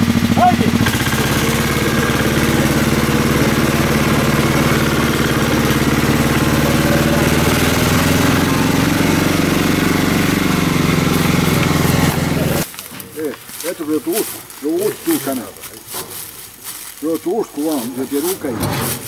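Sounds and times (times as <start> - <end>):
tractor engine under load: 0.0 - 19.0.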